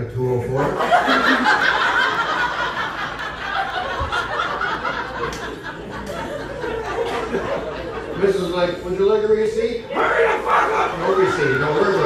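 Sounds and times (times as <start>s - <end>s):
audience laughing: 0.5s - 8.8s, 10.2s - 12.0s.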